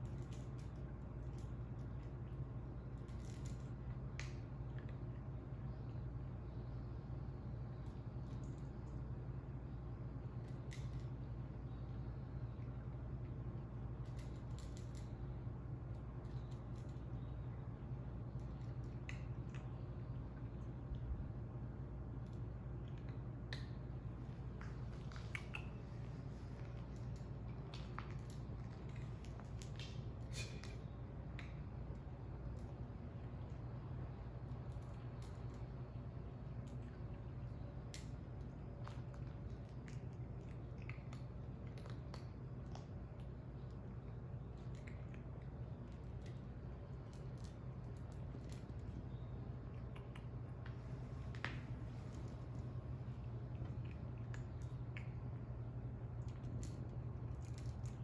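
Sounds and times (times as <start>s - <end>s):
kitten crunching dry kibble: 0.0s - 6.4s, 7.2s - 58.0s
steady low hum: 0.0s - 58.0s.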